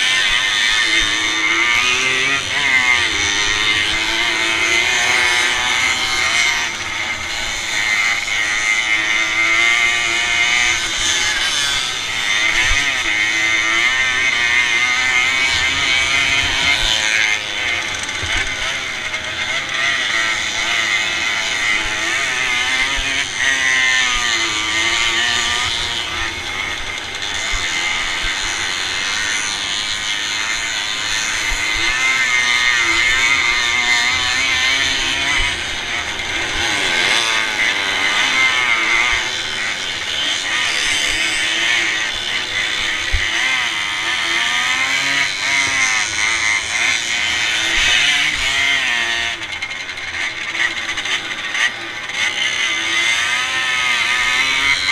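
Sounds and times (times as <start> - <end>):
other motorcycles nearby: 0.0 - 54.9
two-stroke motorcycle engine revving: 0.0 - 54.9.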